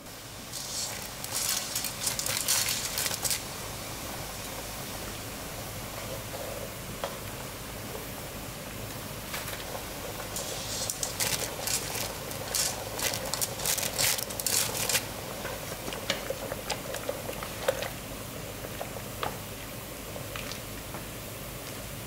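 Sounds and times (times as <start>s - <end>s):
boiling water bubbling: 0.0s - 22.0s.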